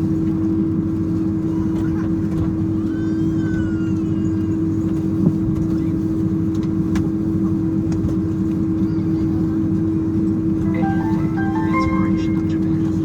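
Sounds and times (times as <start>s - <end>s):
aircraft cabin mechanical hum: 0.0s - 13.0s.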